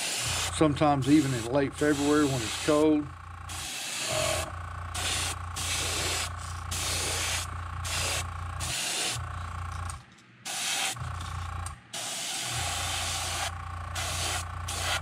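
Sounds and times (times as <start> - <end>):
airbrush spraying paint: 0.0 - 9.3, 10.5 - 11.0, 12.0 - 15.0
steady low hum: 0.0 - 10.4, 11.0 - 15.0.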